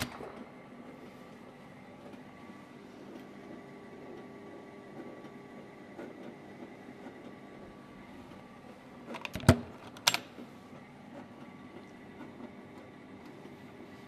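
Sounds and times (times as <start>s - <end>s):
faint machine hum: 0.0s - 14.0s.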